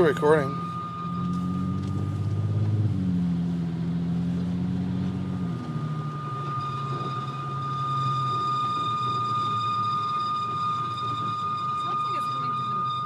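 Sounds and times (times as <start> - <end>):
car engine drone: 0.0 - 13.0
high-pitched squeal: 0.0 - 13.0.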